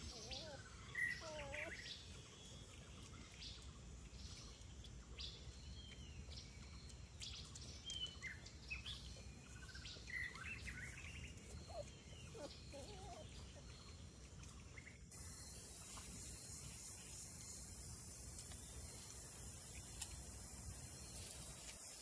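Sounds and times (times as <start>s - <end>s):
faint bird chirps: 0.0s - 22.0s
outdoor background hiss: 0.0s - 22.0s.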